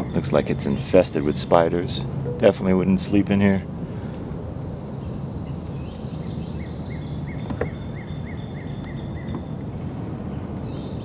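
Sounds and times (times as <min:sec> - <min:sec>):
birdsong: 0:00.0 - 0:11.0
steady low background noise: 0:00.0 - 0:11.0.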